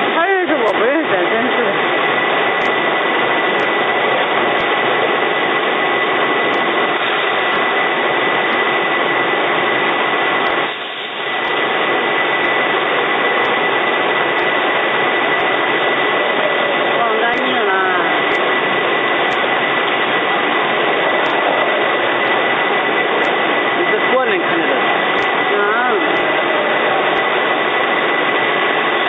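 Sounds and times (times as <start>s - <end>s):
filling machine hissing: 0.0s - 29.0s
high machine whine: 0.0s - 29.0s.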